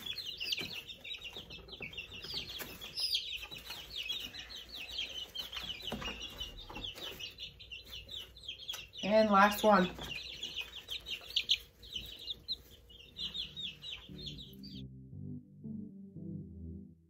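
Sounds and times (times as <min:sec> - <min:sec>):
chicks peeping: 0:00.0 - 0:14.9.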